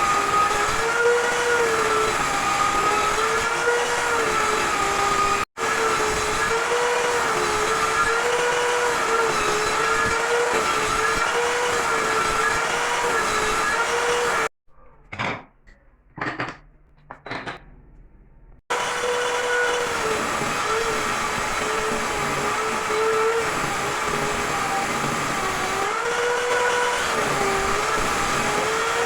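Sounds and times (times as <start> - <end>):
electric power tool motor running: 0.0 - 14.5, 18.7 - 29.0.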